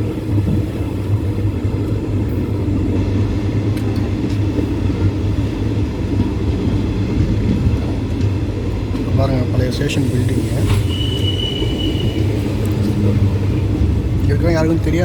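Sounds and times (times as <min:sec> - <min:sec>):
train rumble from on board: 0:00.0 - 0:15.0.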